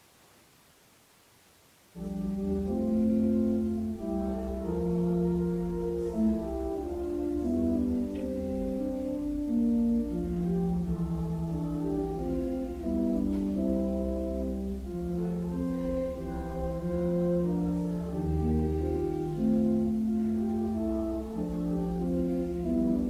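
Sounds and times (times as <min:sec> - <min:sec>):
church organ chords: 0:02.0 - 0:23.0.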